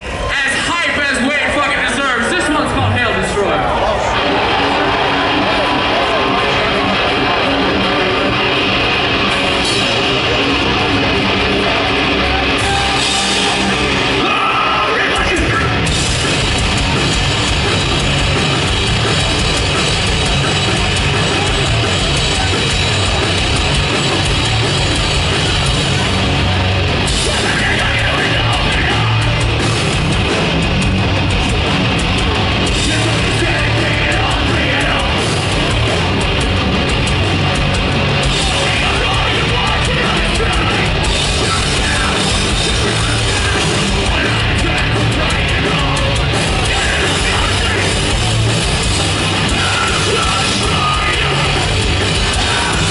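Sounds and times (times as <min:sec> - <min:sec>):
distorted electric guitars: 0:00.0 - 0:52.9
pounding drum kit: 0:00.0 - 0:52.9
punk band playing live: 0:00.0 - 0:52.9.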